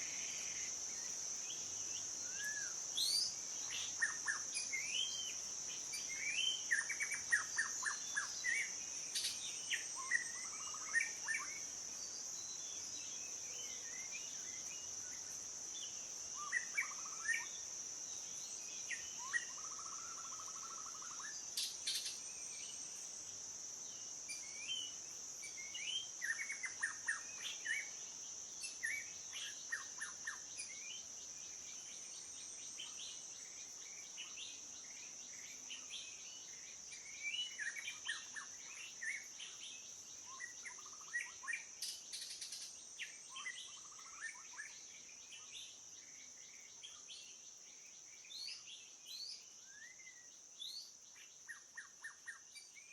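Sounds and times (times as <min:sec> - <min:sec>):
high-pitched insect trill: 0:00.0 - 0:52.9.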